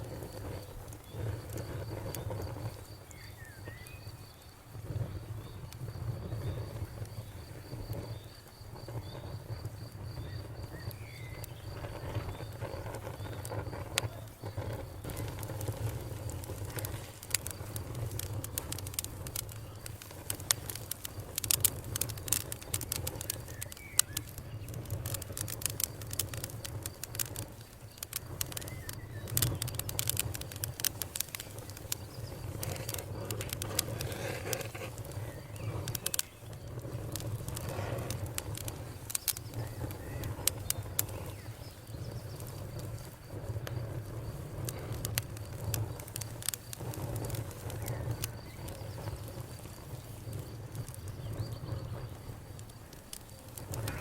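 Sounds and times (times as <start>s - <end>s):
campfire crackling: 0.0s - 54.0s
low rumble of flames: 0.0s - 54.0s.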